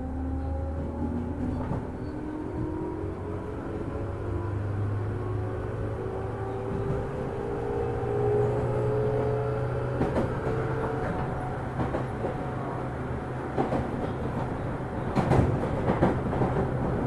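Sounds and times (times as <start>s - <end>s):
train interior running noise: 0.0s - 17.0s.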